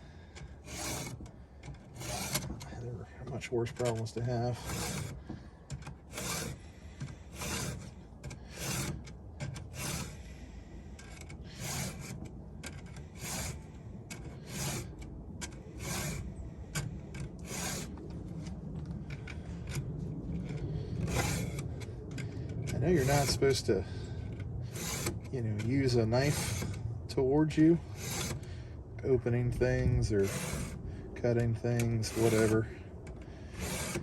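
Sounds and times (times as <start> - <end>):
file rasping on chainsaw chain: 0.0 - 10.2, 11.0 - 18.0, 20.5 - 21.8, 22.6 - 26.8, 27.4 - 32.8, 33.5 - 34.0.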